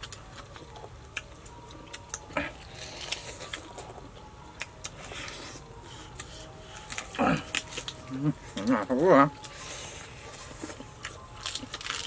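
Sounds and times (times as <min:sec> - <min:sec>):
people chewing crispy food: 0:00.0 - 0:12.0.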